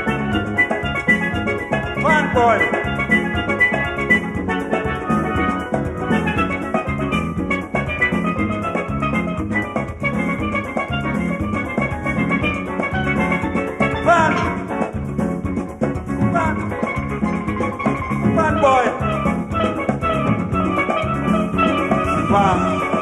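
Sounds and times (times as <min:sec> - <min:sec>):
steady drum beat: 0:00.0 - 0:23.0
steelpan melody: 0:00.0 - 0:23.0.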